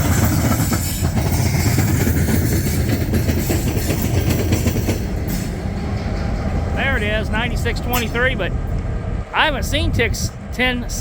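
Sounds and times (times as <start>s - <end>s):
wheels clacking over rail joints: 0.0s - 9.1s
locomotive engine rumble: 0.0s - 11.0s.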